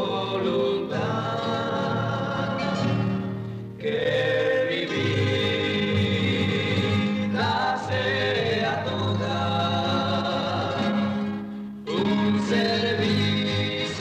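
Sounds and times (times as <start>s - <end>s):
male trio singing a hymn: 0.0s - 14.0s.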